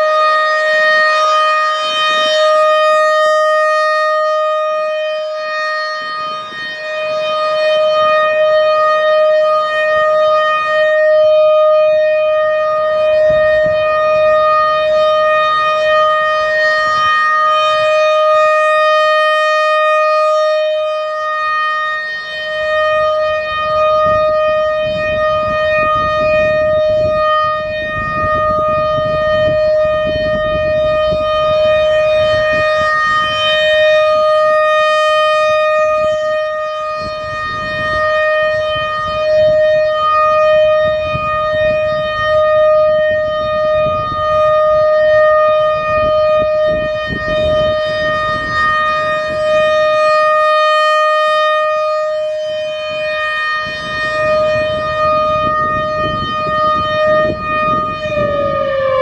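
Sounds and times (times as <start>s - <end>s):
rotating siren steady tone: 0.0s - 59.0s.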